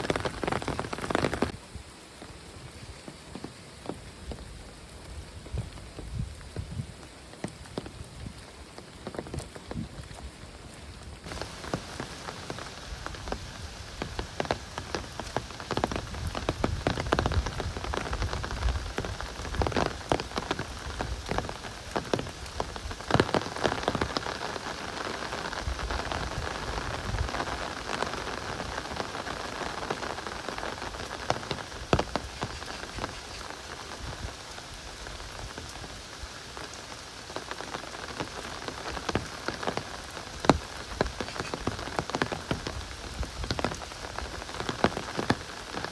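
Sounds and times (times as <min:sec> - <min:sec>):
close raindrop hits: 0:00.0 - 0:45.9
heavy rain pouring: 0:00.0 - 0:45.9.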